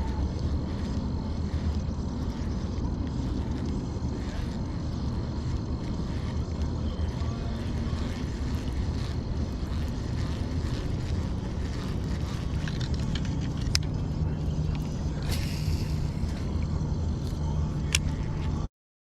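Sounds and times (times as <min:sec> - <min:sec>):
low motor hum: 0:00.0 - 0:18.7.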